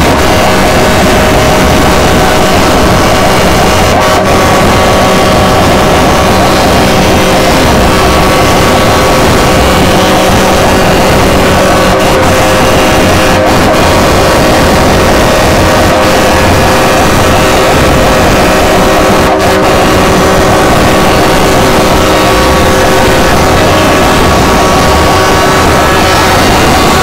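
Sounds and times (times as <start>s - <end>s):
loud vehicle engines running: 0.0s - 27.0s.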